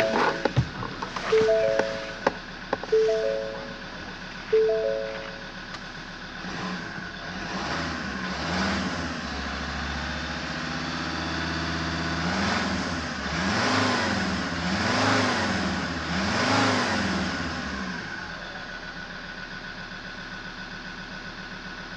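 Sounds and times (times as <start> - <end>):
diesel engine idling and revving: 0.0 - 21.9.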